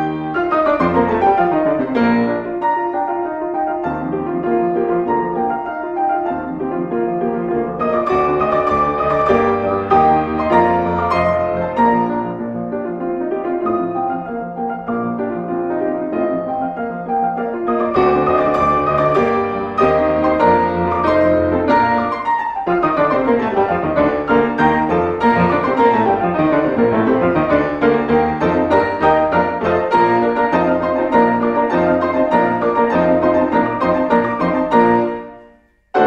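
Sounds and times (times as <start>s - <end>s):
solo classical piano: 0.0s - 36.0s.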